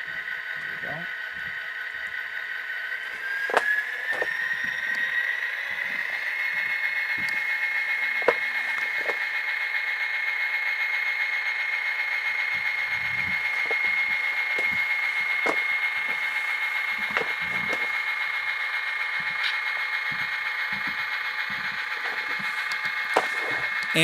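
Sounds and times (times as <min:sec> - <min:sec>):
diesel engine sound from small speaker: 0:00.0 - 0:24.0.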